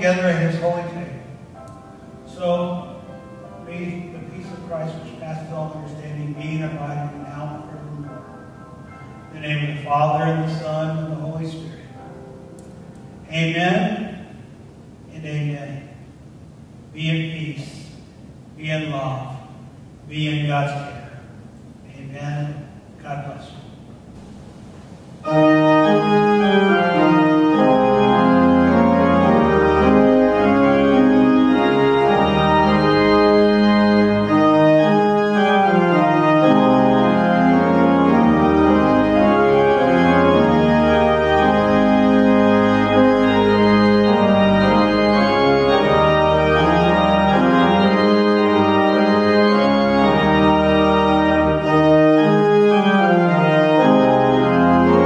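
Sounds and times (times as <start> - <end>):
organ playing sustained chords: 0.0 - 55.0.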